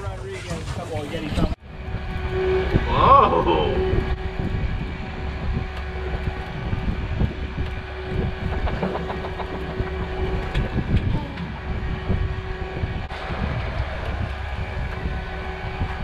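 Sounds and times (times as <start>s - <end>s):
wind on microphone: 1.5s - 16.0s.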